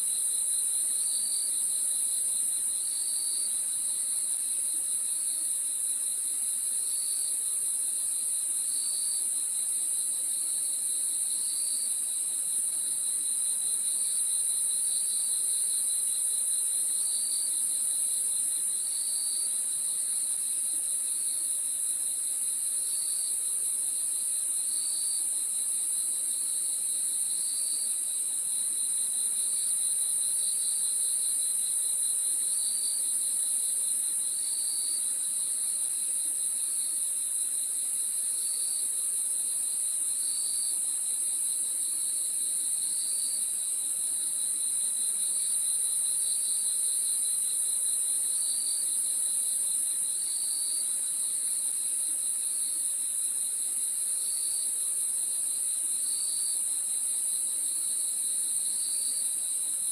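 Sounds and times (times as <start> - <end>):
lower cricket chirp: 0.0 - 59.9.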